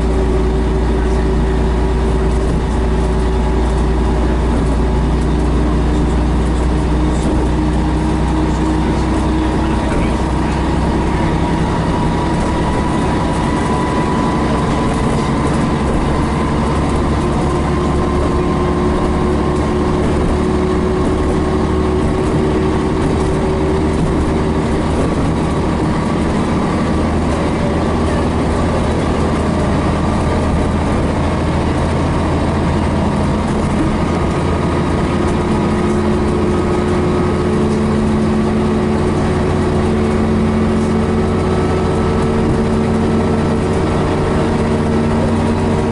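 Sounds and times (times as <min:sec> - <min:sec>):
bus engine droning: 0:00.0 - 0:45.9.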